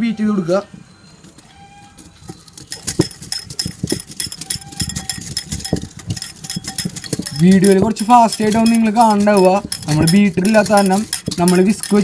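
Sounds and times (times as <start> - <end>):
whisk clinking against glass bowl: 2.3 - 12.0.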